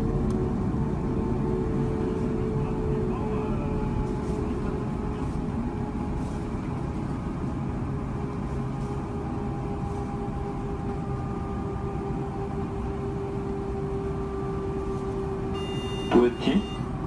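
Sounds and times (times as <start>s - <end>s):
jet engine cabin rush: 0.0s - 17.0s.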